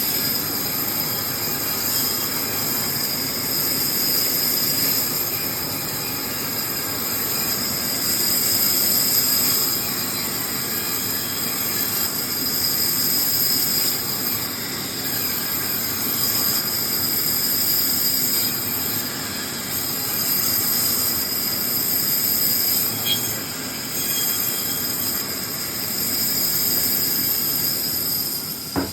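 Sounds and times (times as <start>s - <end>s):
woodworking power tool whining: 0.0s - 28.9s.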